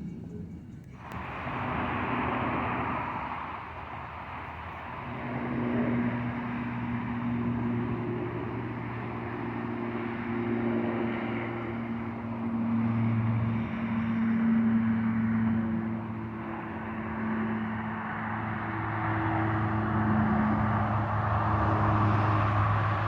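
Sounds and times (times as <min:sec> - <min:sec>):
engine hum: 0:00.0 - 0:23.0.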